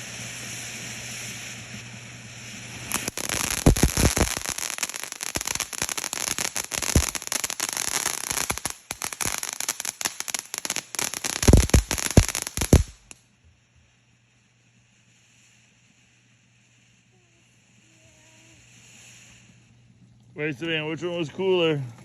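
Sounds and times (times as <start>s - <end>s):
firework crackles and pops: 0.0s - 19.9s.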